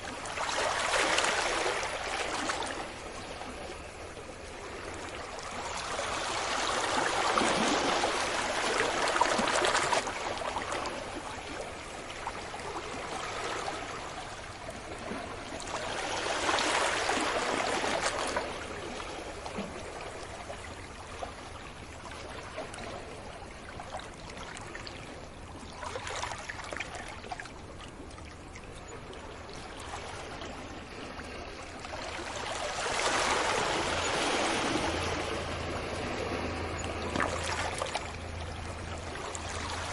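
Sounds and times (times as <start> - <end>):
sea waves breaking on beach: 0.0 - 28.1, 29.3 - 39.9.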